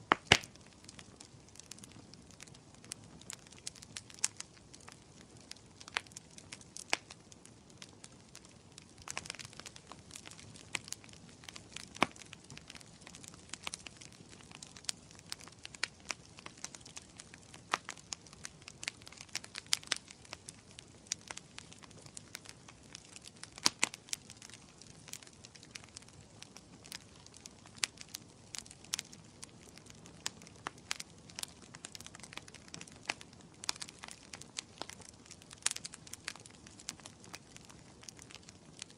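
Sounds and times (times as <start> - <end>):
fire popping and snapping: 0.0 - 38.9
wood fire crackling: 0.0 - 38.9.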